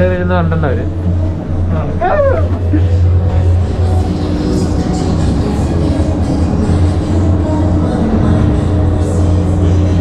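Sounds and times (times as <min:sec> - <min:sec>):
loud music with bass drone: 0:00.0 - 0:10.0.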